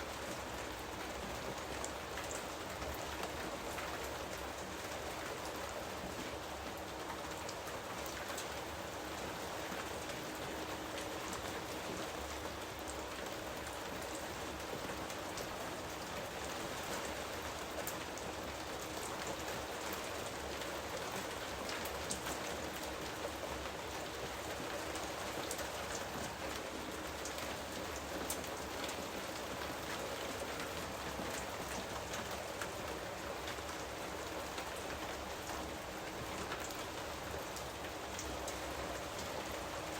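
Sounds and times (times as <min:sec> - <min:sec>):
raindrops pattering on a surface: 0:00.0 - 0:39.9
steady rain hissing: 0:00.0 - 0:39.9.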